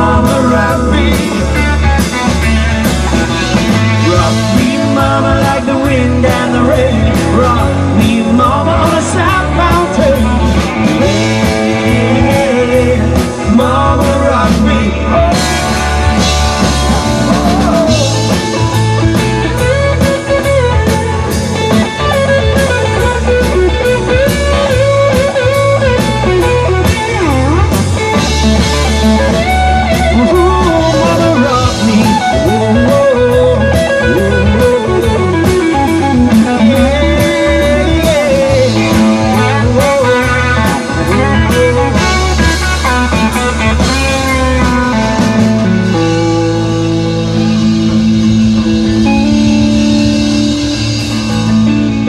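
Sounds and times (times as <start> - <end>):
lead guitar bending melody: 0.0 - 52.0
live rock band playing: 0.0 - 52.0.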